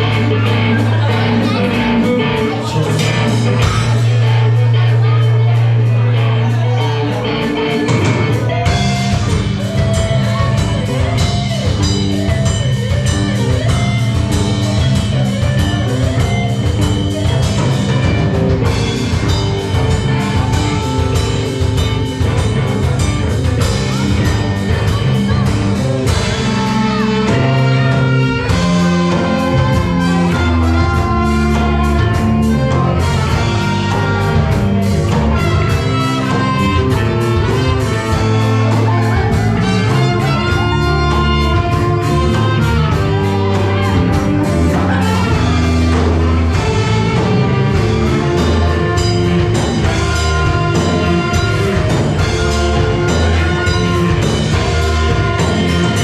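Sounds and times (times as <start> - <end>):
ska band playing: 0.0 - 56.0
strong bass line: 0.0 - 56.0.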